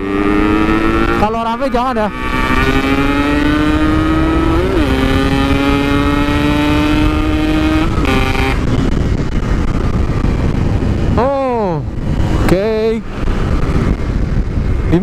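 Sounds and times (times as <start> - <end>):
motorcycle engine accelerating: 0.0 - 15.0
road noise: 0.0 - 15.0
wind noise: 0.0 - 15.0.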